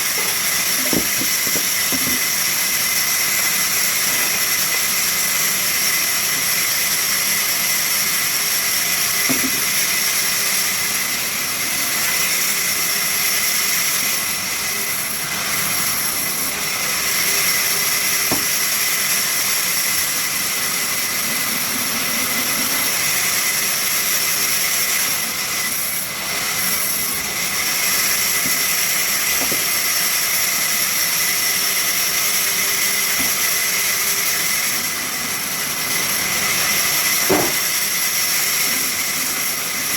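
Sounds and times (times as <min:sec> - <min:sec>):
saw machine whining hiss: 0:00.0 - 0:39.9.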